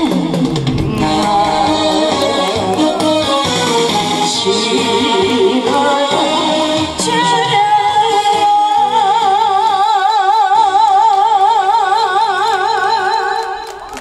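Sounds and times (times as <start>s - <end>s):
amplified backing track: 0.0s - 14.0s
woman singing into microphone: 0.8s - 13.9s.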